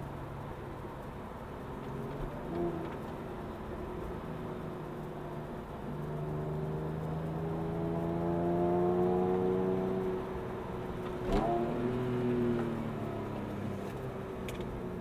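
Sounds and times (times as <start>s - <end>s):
car engine accelerating: 1.7s - 15.0s.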